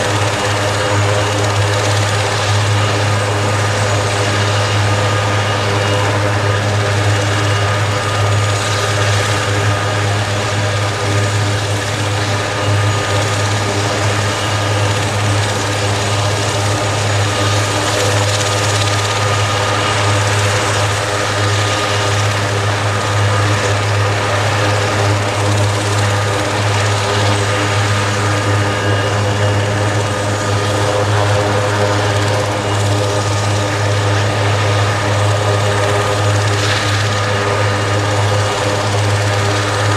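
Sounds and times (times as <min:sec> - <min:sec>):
helicopter rotor drone: 0:00.0 - 0:39.9
turbine engine whine: 0:00.0 - 0:39.9.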